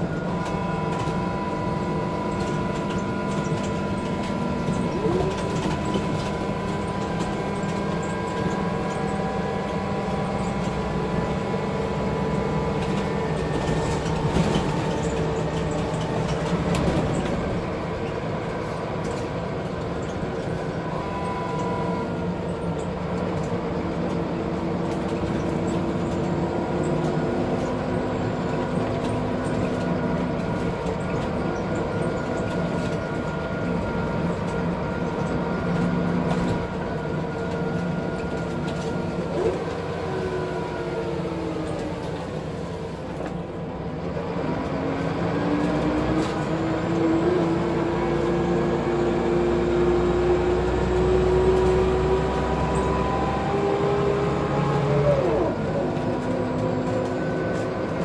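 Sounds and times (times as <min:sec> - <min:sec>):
bus engine drone with whine: 0:00.0 - 0:58.0.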